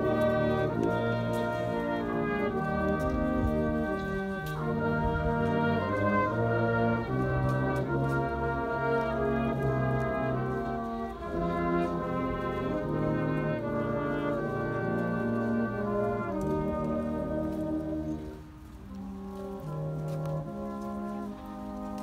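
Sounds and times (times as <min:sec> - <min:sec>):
brass band playing slow chords: 0:00.0 - 0:22.0.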